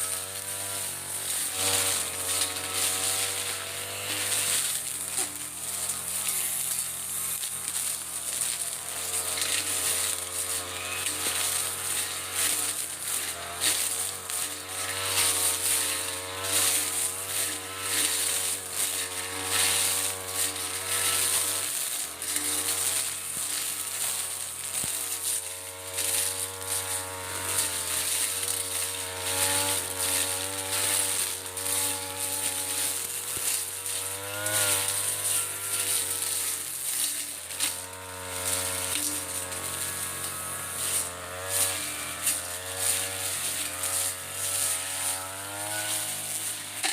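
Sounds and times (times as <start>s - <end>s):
brush cutter engine cutting ferns: 0.0s - 46.9s.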